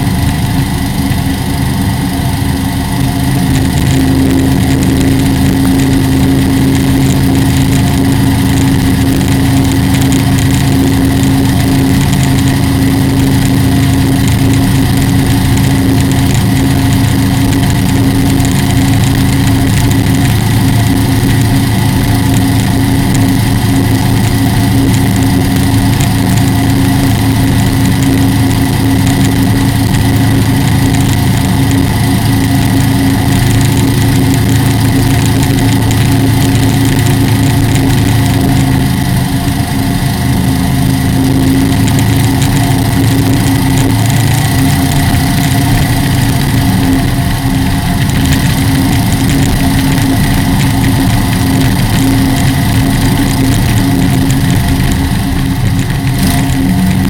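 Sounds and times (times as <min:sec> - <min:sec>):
boat engine running at speed: 0:00.0 - 0:57.0.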